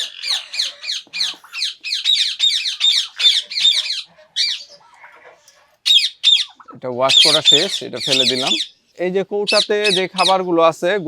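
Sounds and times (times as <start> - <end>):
parrot squawking: 0.0 - 10.6.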